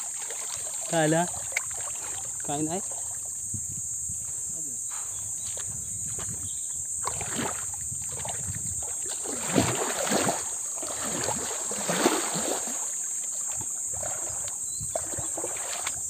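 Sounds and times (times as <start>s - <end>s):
water sloshing and splashing: 0.0s - 3.5s, 5.4s - 16.0s.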